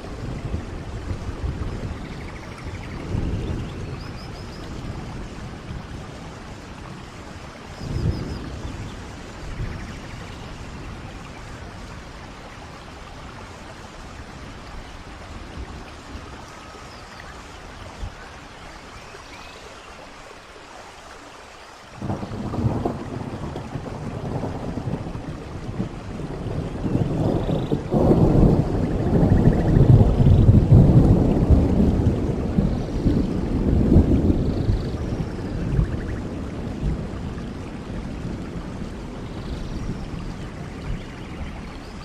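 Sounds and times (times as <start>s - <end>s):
rushing waterfall: 0.0s - 42.0s
steady rain: 0.0s - 42.0s.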